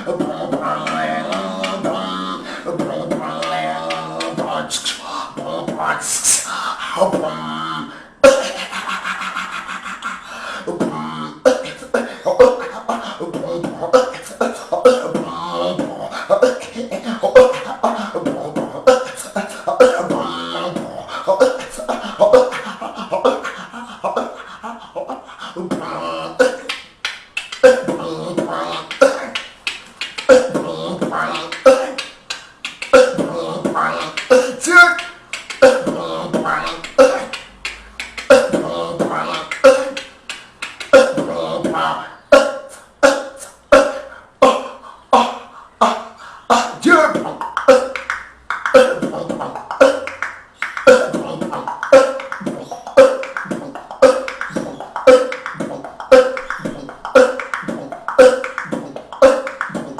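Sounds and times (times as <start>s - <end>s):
hummed vocal tones: 0.0s - 59.9s
man beatboxing: 0.0s - 59.9s.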